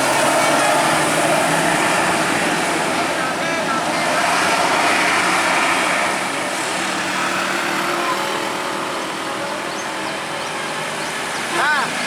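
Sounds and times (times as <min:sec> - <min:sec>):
road traffic engine hum: 0:00.0 - 0:12.0.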